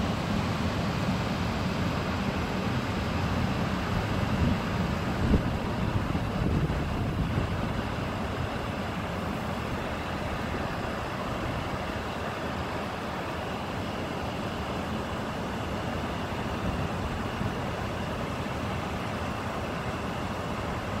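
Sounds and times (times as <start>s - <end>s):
distant road traffic roar: 0.0s - 21.0s.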